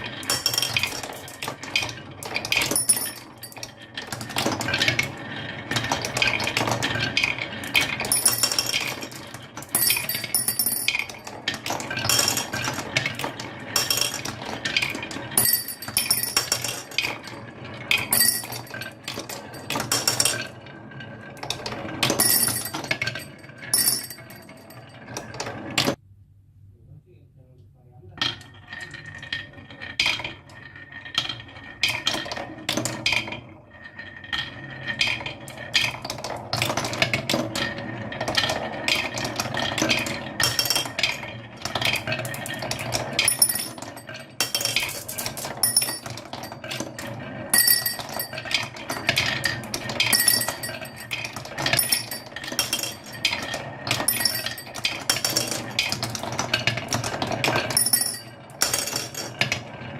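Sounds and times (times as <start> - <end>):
marbles clacking down wooden run: 0.0 - 25.9, 28.2 - 59.7.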